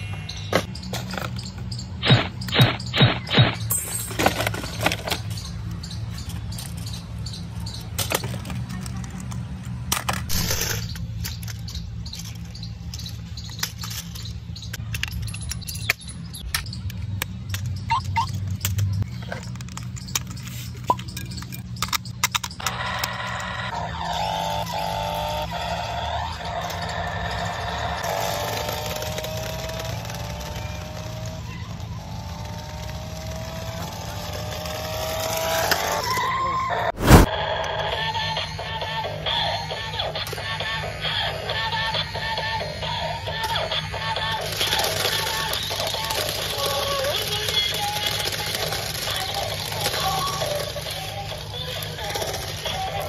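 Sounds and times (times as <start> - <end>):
remote-control car motors whining: 4.2 - 14.8, 17.4 - 53.0.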